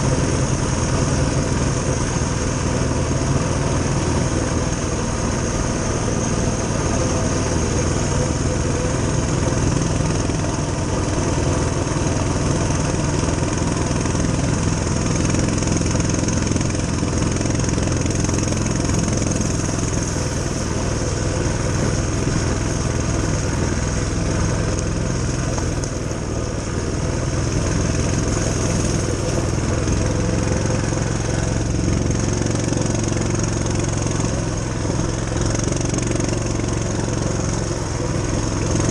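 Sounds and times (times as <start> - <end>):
mini bike engine running: 0.0 - 38.9.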